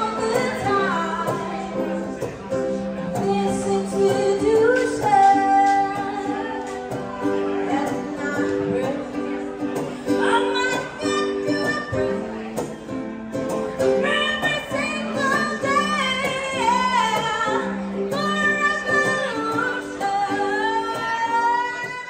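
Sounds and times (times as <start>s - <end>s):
woman singing: 0.0s - 12.7s, 13.8s - 22.0s
acoustic guitar: 0.0s - 22.0s.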